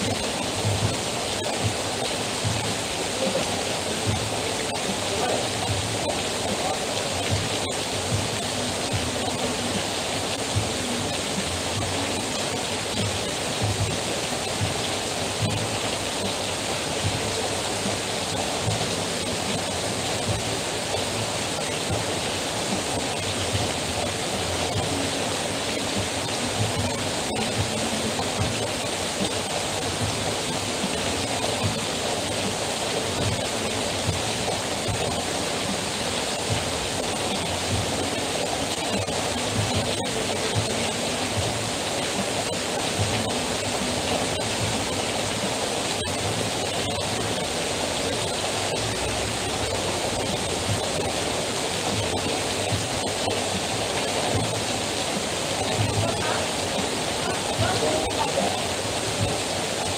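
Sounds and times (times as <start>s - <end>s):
heavy rain pouring off a roof: 0.0s - 59.9s.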